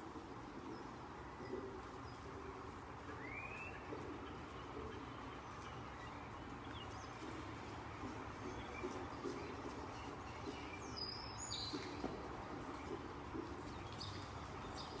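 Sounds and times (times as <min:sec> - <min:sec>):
horse hooves on dirt: 0:00.0 - 0:15.0
small birds chirping: 0:00.0 - 0:15.0
steady background hiss: 0:00.0 - 0:15.0.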